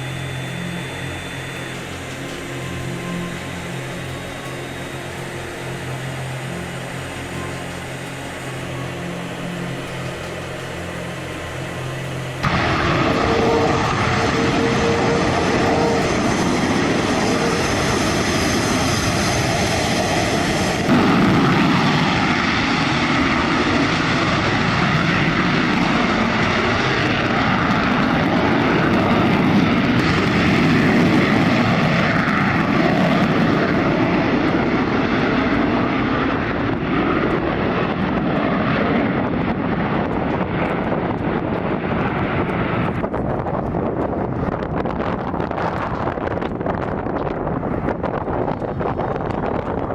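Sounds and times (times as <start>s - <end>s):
aircraft engine noise: 0.0s - 49.9s.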